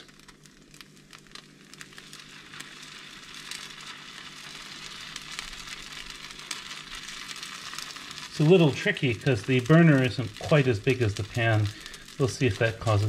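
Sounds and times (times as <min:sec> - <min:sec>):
batter sizzling in hot oil: 0:00.0 - 0:13.0.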